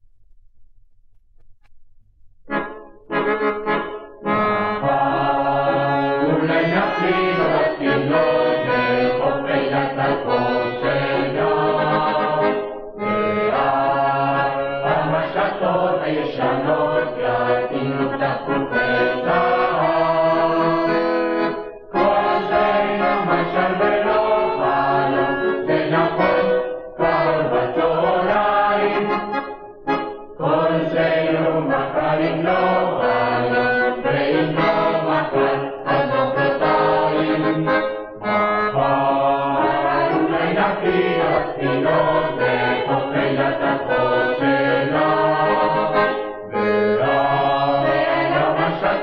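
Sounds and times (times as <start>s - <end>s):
youth choir singing: 4.8s - 12.7s, 13.3s - 29.4s, 30.4s - 37.8s, 38.7s - 49.0s.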